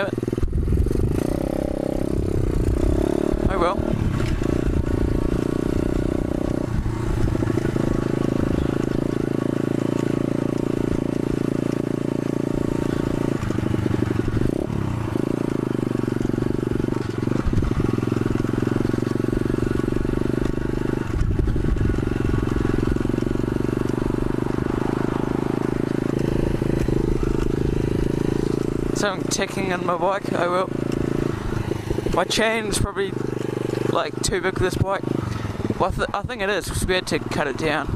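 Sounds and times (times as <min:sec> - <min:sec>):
pit bike engine running: 0:00.0 - 0:37.9.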